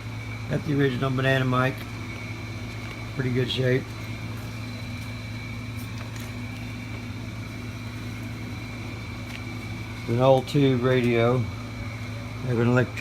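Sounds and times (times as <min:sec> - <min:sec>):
faint high whine and hiss: 0:00.0 - 0:13.0
low electrical hum: 0:00.0 - 0:13.0.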